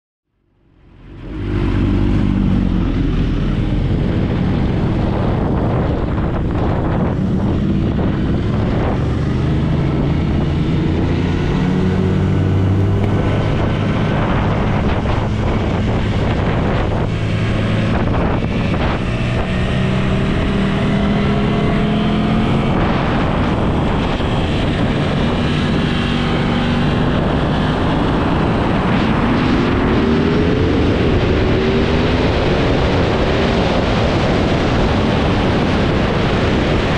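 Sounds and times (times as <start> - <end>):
wind rushing over microphone: 0.4 - 36.9
motorcycle engine revving: 0.8 - 36.9.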